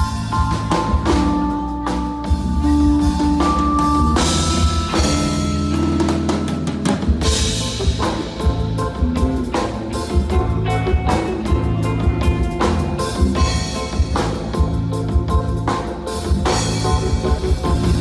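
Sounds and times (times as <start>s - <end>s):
drum kit beat: 0.0s - 18.0s
heavy bass line: 0.0s - 18.0s.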